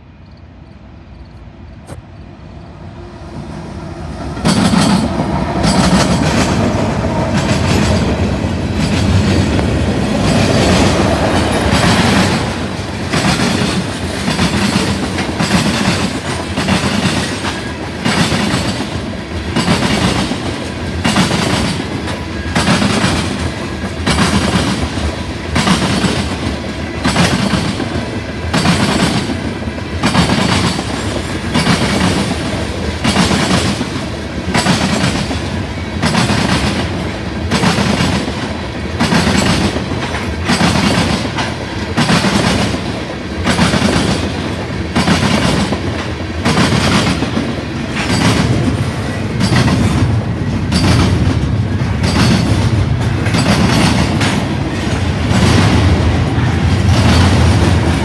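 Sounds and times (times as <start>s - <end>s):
train wheels clickety-clack: 4.1s - 58.0s.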